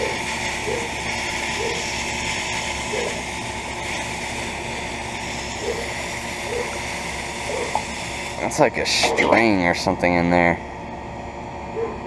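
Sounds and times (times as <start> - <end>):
air conditioner condenser humming: 0.0 - 12.0.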